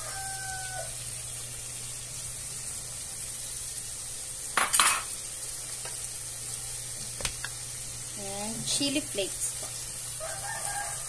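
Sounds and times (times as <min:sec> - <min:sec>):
shrimp sizzling in pan: 0:00.0 - 0:11.0.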